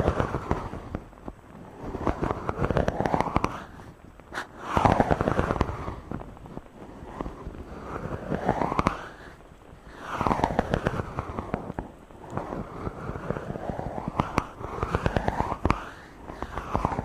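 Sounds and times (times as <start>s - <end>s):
fingers rubbing on microphone: 0.0s - 17.0s.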